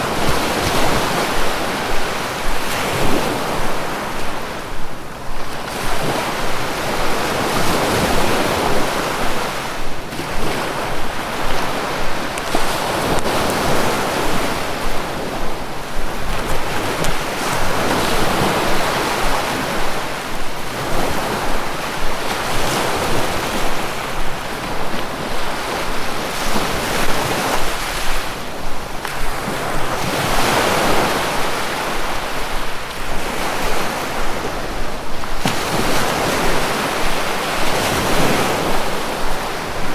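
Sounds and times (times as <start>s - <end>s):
sea waves breaking: 0.0s - 39.9s
wind: 0.0s - 39.9s.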